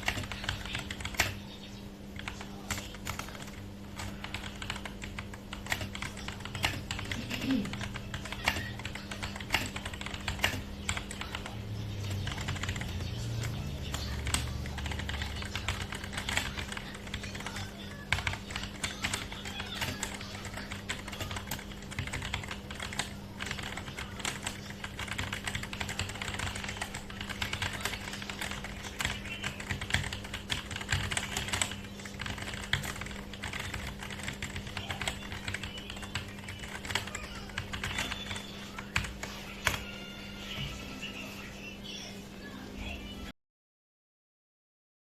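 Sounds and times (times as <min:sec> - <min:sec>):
mechanical keyboard typing: 0:00.0 - 0:01.5, 0:02.2 - 0:40.0.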